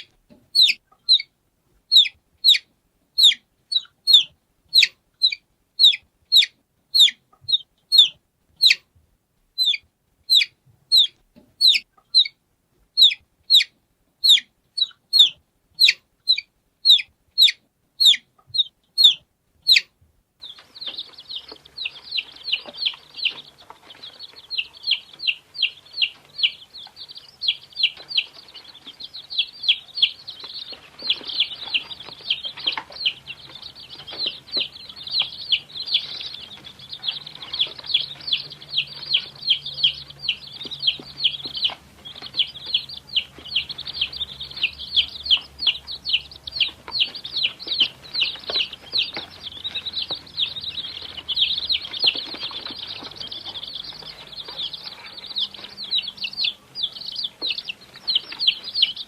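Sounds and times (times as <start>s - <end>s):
chick peeping: 0.0s - 8.9s, 9.6s - 59.0s
chorus of chicks peeping: 0.0s - 59.0s.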